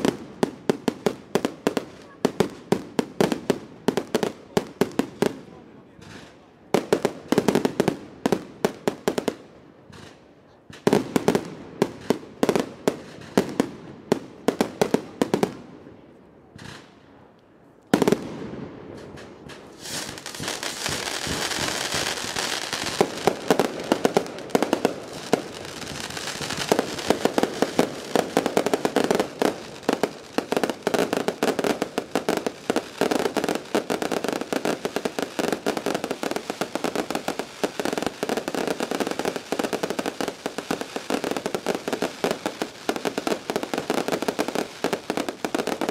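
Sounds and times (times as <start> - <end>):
fireworks bangs: 0.0 - 15.7, 17.9 - 45.9
fireworks crackling pops: 0.0 - 45.9.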